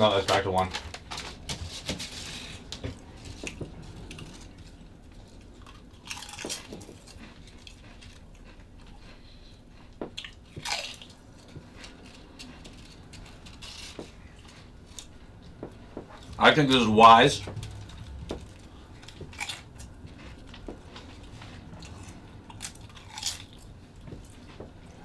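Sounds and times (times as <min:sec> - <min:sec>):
chips being chewed: 0:02.4 - 0:16.5, 0:17.6 - 0:25.0.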